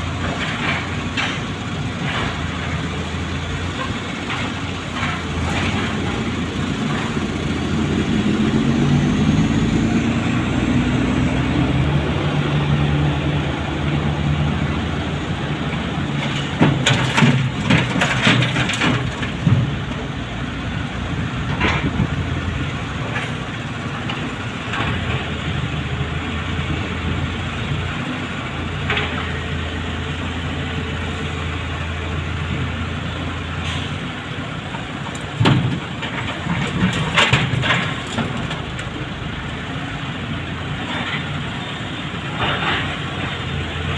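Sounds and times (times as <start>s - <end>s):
wheel loader diesel engine: 0.0s - 43.9s.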